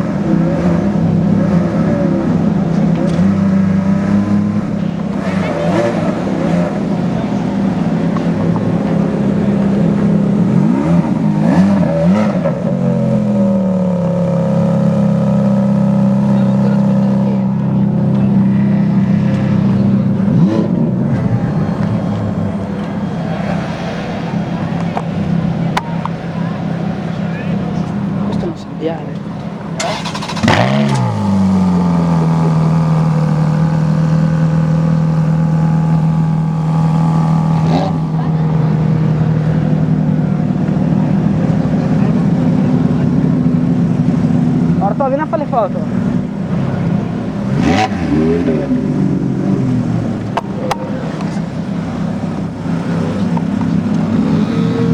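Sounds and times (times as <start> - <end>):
sports car engine idling and blipping: 0.0 - 54.9.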